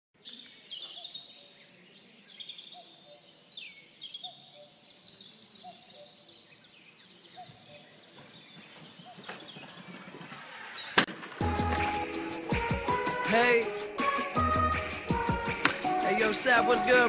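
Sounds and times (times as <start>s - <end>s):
birds chirping: 0.2s - 17.0s
faint outdoor background noise: 0.2s - 17.0s.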